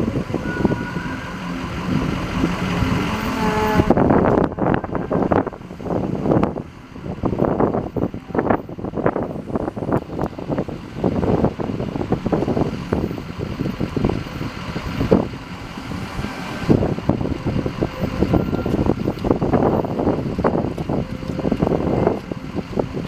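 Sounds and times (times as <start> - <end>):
outdoor street noise: 0.0 - 23.0
wind buffeting microphone: 0.0 - 23.0.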